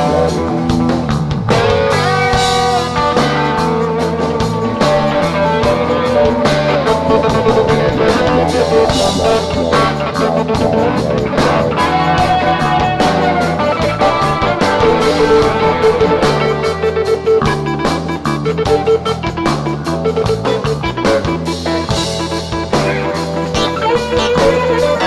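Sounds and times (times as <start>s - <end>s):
bass guitar: 0.0s - 25.0s
drum-kit beat: 0.0s - 25.0s
electric guitar lead: 0.0s - 25.0s.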